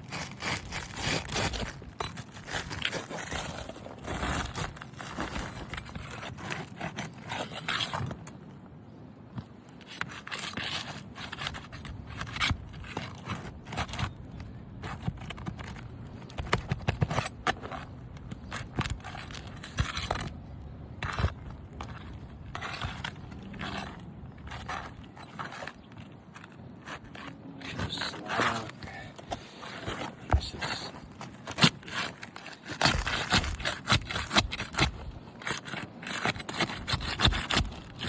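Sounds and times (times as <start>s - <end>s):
roof shingles being scraped: 0.0s - 8.4s, 9.8s - 38.0s.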